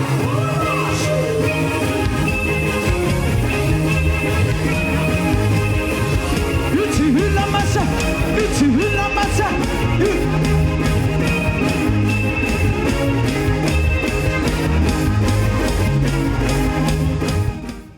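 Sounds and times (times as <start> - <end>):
gospel band music: 0.0 - 17.9
sliding melody line: 0.1 - 17.9.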